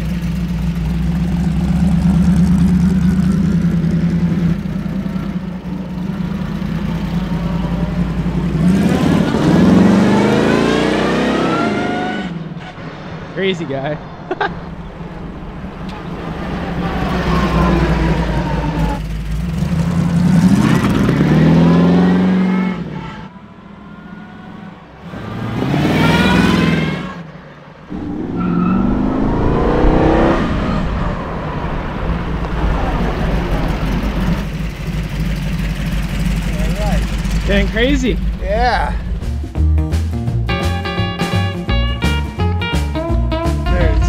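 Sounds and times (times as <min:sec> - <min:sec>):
car engine accelerating: 0:00.0 - 0:13.3, 0:14.0 - 0:41.2.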